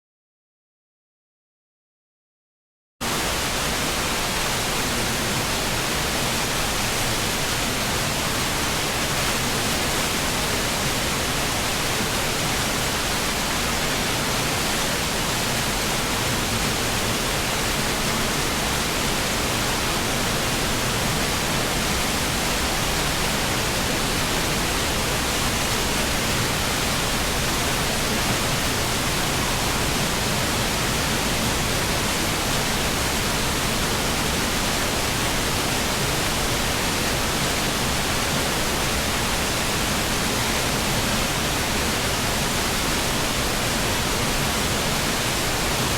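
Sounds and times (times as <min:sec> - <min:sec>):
stream rushing over rocks: 0:03.0 - 0:45.9.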